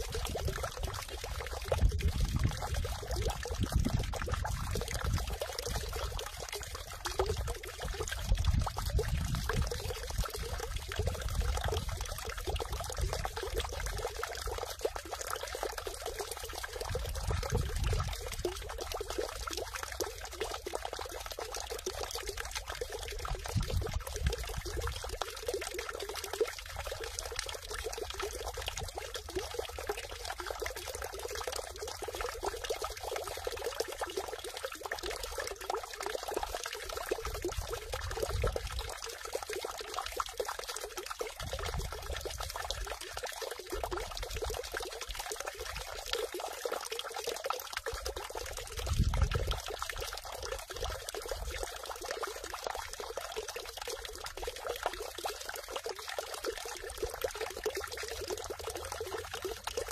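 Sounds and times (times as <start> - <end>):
water splashing into stone basin: 0.0 - 59.9.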